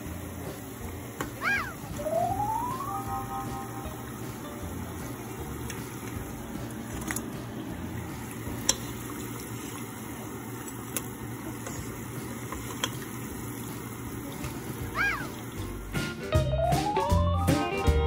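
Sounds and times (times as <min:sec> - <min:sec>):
deep-frying oil sizzling: 0:00.0 - 0:18.0.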